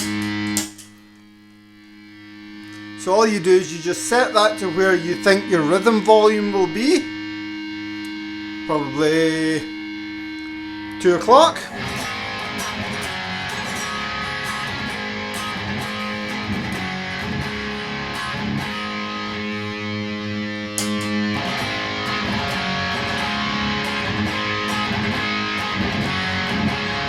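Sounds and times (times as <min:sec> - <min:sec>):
electric guitar strumming and picking: 0:00.0 - 0:27.0.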